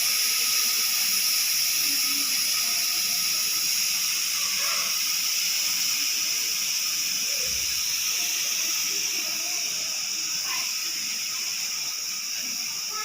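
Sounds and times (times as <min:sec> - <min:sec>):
pressure cooker steam hissing: 0:00.0 - 0:13.0.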